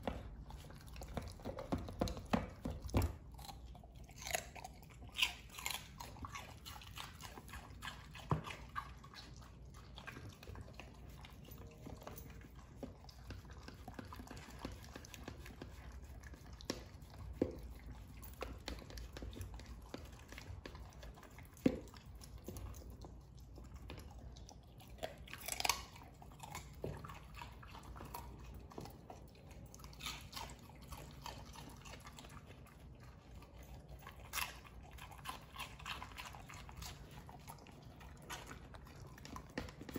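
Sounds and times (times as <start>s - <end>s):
dog chewing and crunching: 0.0s - 39.9s.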